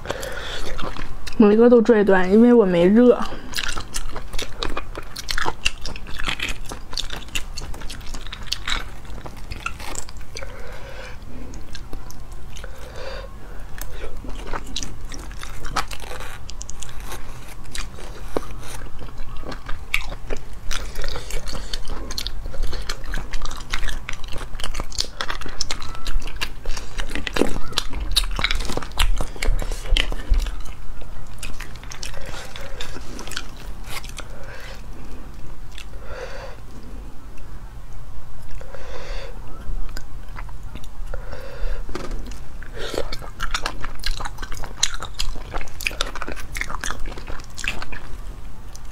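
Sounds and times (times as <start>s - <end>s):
close-miked chewing and sucking: 0.0s - 2.2s, 3.1s - 37.5s, 38.4s - 48.9s.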